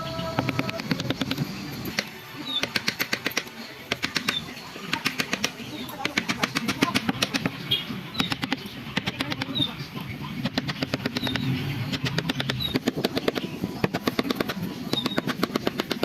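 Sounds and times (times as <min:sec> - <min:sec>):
carving tool tapping wood: 0:00.4 - 0:01.4, 0:02.0 - 0:07.6, 0:08.2 - 0:09.7, 0:10.4 - 0:16.0.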